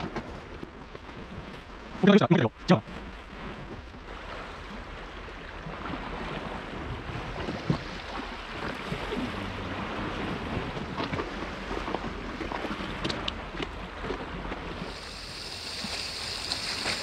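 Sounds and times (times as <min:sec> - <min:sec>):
sea waves on a rocky shore: 0:00.0 - 0:17.0
wind rumbling on microphone: 0:00.0 - 0:17.0.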